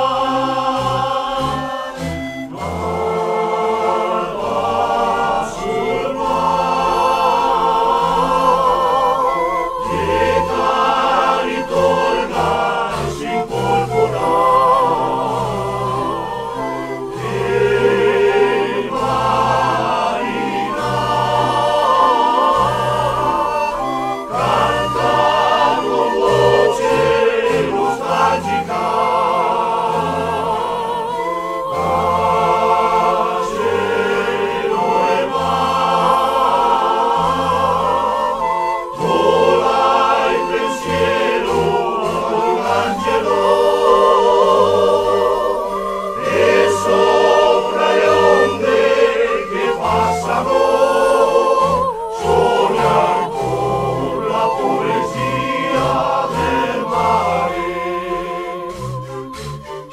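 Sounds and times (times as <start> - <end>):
pan flute ensemble music: 0.0 - 59.9.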